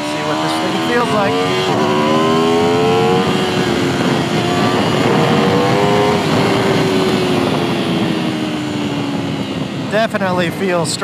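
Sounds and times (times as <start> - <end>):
heavy wind rush: 0.0 - 11.0
motorcycle engine accelerating: 0.0 - 11.0.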